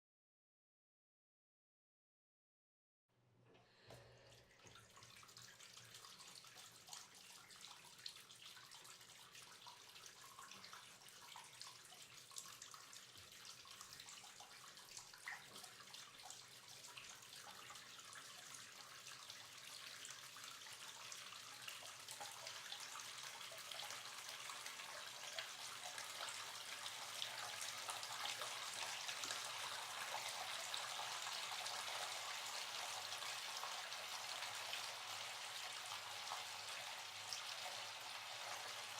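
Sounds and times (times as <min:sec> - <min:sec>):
tap water filling bathtub: 0:03.5 - 0:38.9.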